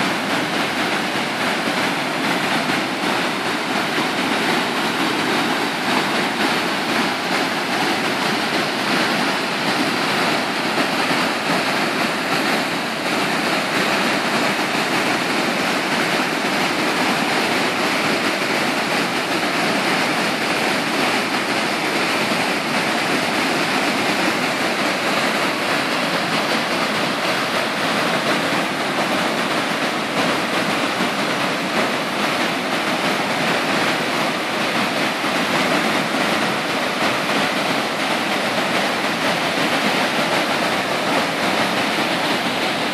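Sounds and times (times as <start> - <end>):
river water rushing over a weir: 0.0 - 42.9.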